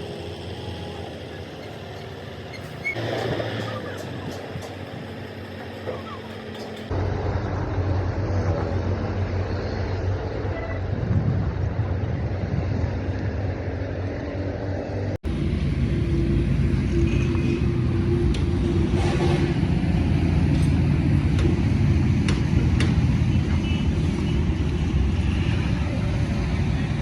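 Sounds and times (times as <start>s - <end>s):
engine low rumble: 0.0s - 27.0s.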